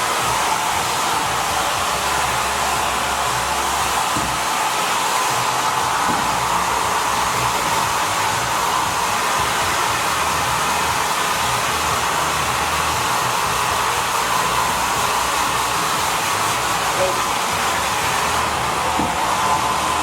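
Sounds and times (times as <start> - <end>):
hair dryer blowing air: 0.0 - 20.0.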